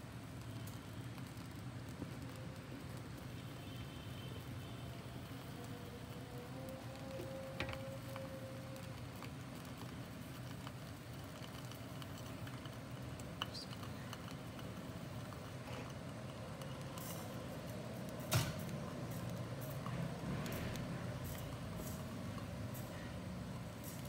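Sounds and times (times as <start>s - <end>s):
gas burner rumbling: 0.0s - 24.0s.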